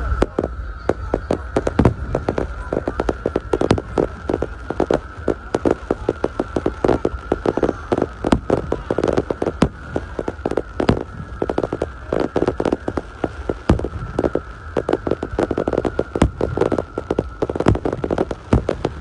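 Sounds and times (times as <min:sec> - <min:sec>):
faint steady high tone: 0:00.0 - 0:19.0
firecrackers popping: 0:00.0 - 0:19.0.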